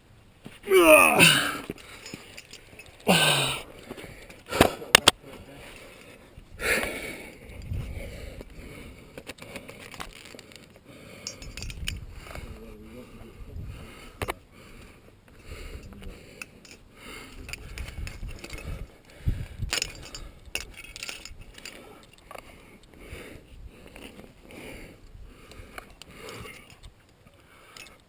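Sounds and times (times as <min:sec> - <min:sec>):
climbing gear clinking: 0:00.9 - 0:12.6, 0:15.4 - 0:23.0, 0:23.8 - 0:28.0.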